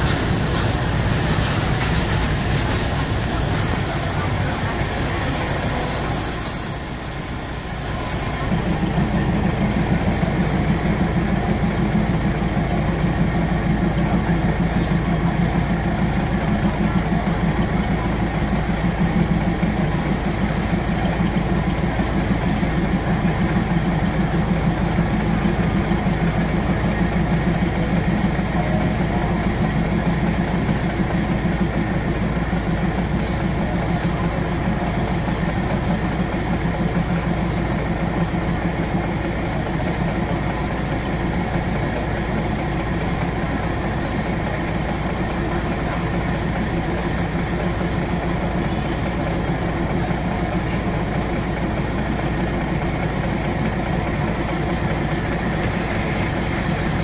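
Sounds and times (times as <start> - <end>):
diesel train engine hum: 0.0 - 57.0.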